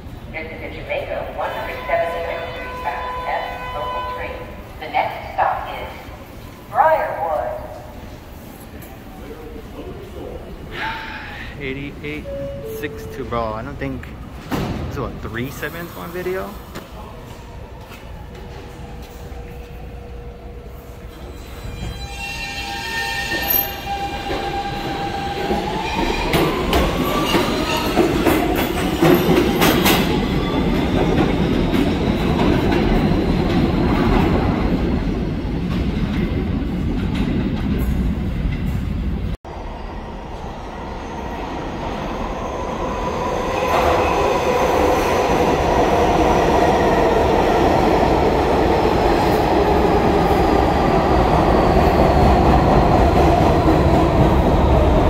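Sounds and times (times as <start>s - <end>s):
subway train propulsion whine: 0.0s - 55.0s
train passing with rumble: 0.0s - 55.0s.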